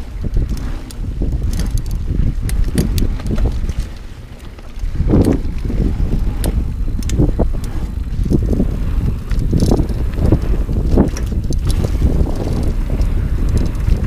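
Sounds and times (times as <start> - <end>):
bike rattles and knocks: 0.0 - 14.0
bike tyre rumble on dirt: 0.0 - 14.0
wind on camera microphone: 0.0 - 14.0.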